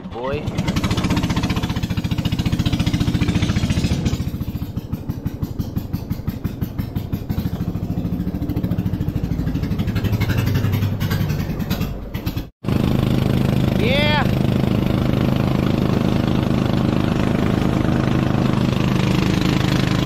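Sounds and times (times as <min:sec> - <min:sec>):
boat engine puttering: 0:00.0 - 0:20.0.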